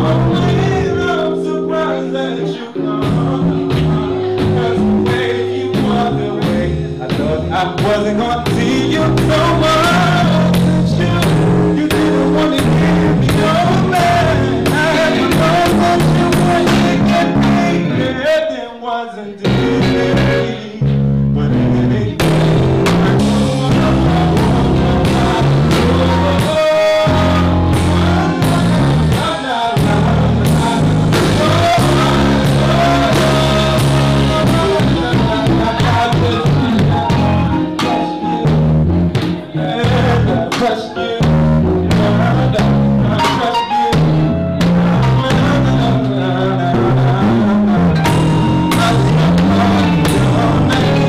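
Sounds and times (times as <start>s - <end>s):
electric keyboard chords: 0.0s - 51.0s
drum kit groove: 2.8s - 18.0s, 22.2s - 45.8s, 48.0s - 51.0s.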